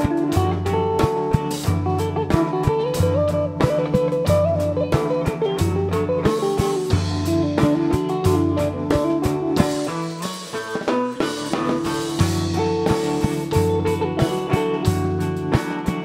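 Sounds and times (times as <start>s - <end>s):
drum kit steady beat: 0.0s - 16.0s
electric guitar melody: 0.0s - 16.0s.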